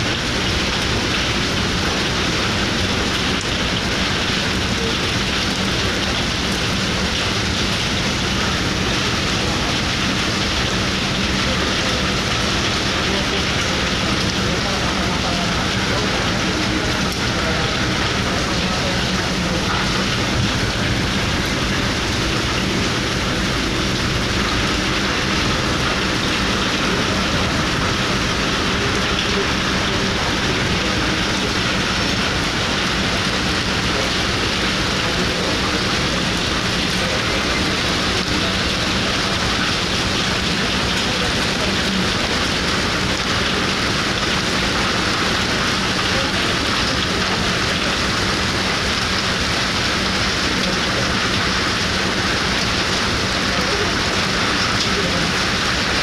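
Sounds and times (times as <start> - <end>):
heavy rain hissing on deck: 0.0 - 56.0
ship engine droning: 0.0 - 56.0.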